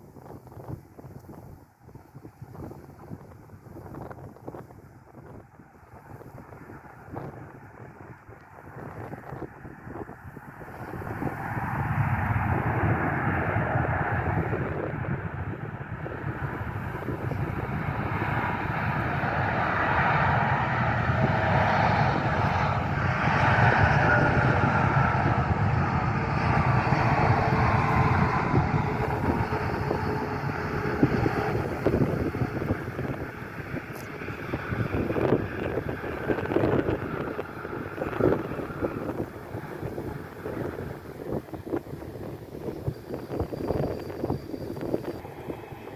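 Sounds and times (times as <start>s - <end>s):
airplane engines roaring: 0.0s - 45.9s.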